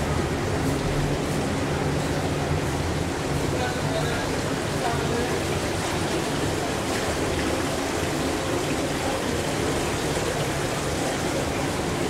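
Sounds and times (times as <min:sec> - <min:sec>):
water churning in a pool: 0:00.0 - 0:12.0.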